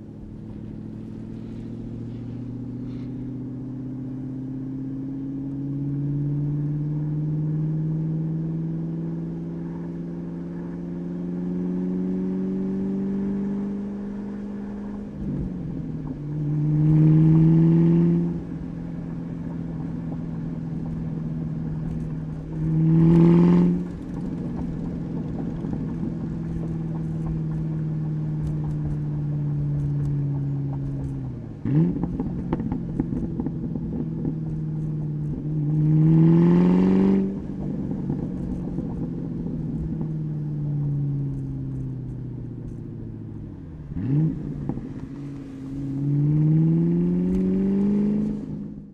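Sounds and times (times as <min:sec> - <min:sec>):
exhaust crackles: 0:00.0 - 0:06.5, 0:09.2 - 0:48.9
car engine cruising: 0:00.0 - 0:48.9.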